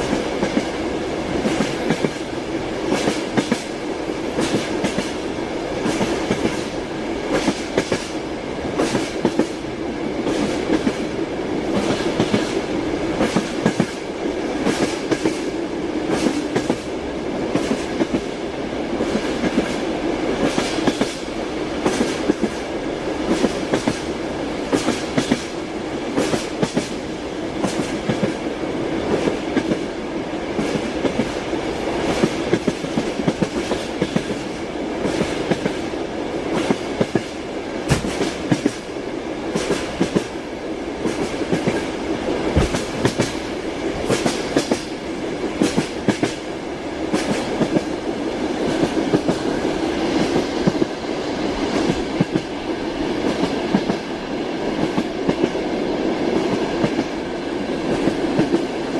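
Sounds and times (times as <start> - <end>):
train rolling rumble: 0.0 - 58.9
train wheels clicking on rail joints: 0.0 - 58.9.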